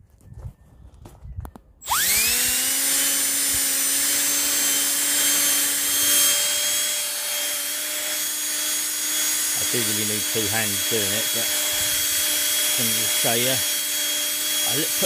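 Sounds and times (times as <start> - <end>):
cordless drill motor whine: 1.8 - 15.0
polishing pad hissing: 1.8 - 15.0.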